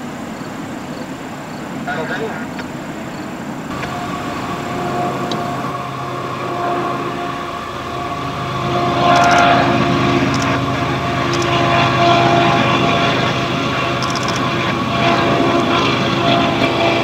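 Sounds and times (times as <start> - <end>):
diesel locomotive engine drone: 1.7 - 17.0.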